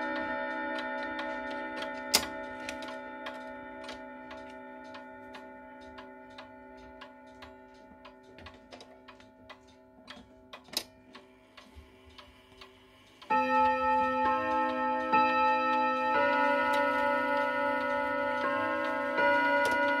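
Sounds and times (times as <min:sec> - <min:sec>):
clock chime melody: 0:00.0 - 0:11.8, 0:13.2 - 0:20.0
wall clock ticking: 0:00.0 - 0:20.0.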